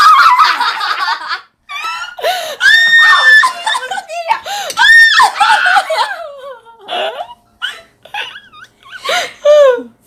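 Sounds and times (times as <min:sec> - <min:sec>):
women laughing and squealing: 0:00.0 - 0:09.8.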